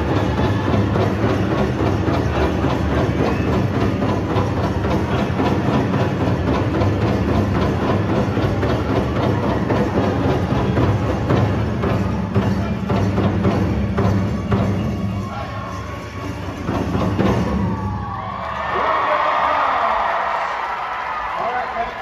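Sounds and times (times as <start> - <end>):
drum group playing fast beat: 0.0 - 18.3.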